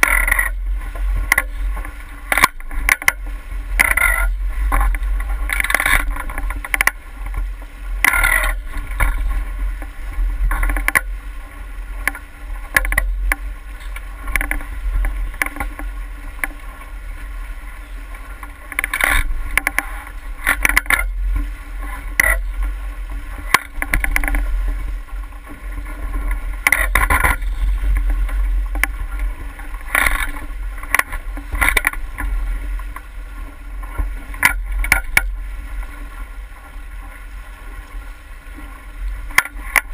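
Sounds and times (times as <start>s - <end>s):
water slapping against hull: 0.0s - 39.9s
wind rumble on microphone: 0.0s - 39.9s.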